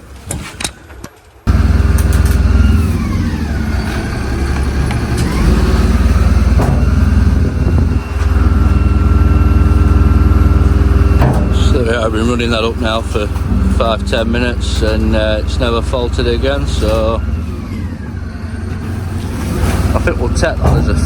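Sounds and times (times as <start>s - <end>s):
garbage truck engine and hydraulics: 0.0s - 21.0s
hydraulic whine: 1.5s - 21.0s.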